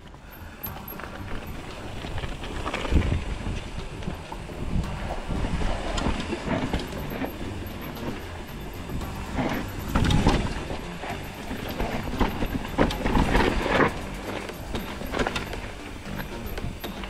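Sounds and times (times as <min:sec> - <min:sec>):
wind buffeting microphone: 0:00.0 - 0:16.9
bike knocking and rattling: 0:00.0 - 0:17.0
bike tyres rumbling on rocky trail: 0:00.0 - 0:17.0.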